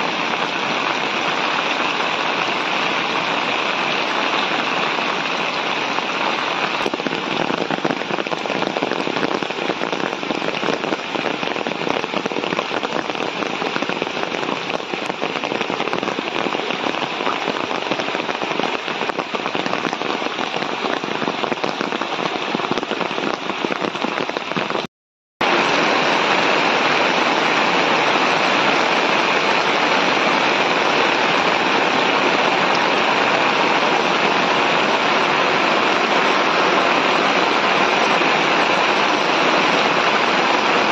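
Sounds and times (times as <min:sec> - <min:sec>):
heavy rain pouring on water: 0:00.0 - 0:40.9.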